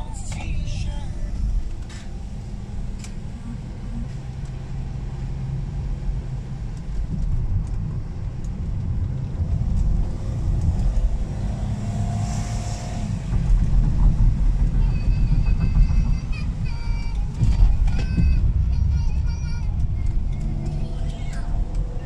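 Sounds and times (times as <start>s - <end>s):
engine rumble in car cabin: 0.0s - 22.0s
tyres on wet road: 0.0s - 22.0s.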